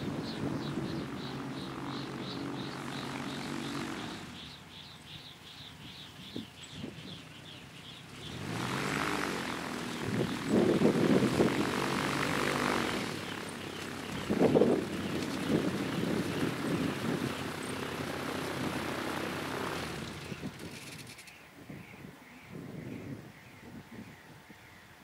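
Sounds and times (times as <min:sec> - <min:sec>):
gyroplane engine and propeller: 0:00.0 - 0:21.4.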